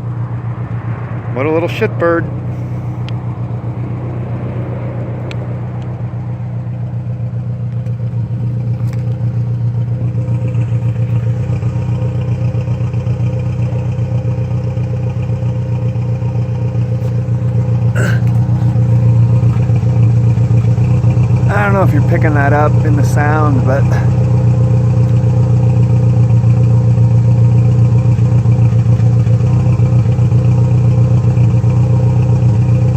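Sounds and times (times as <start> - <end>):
car engine idling rough: 0.0 - 32.9.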